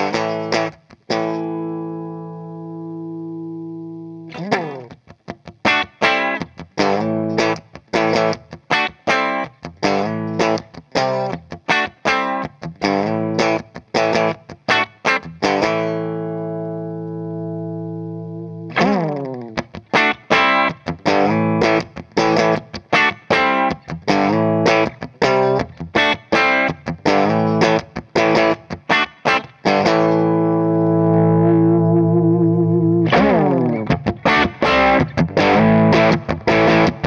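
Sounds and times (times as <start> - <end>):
overdriven electric guitar chords: 0.0 - 37.0.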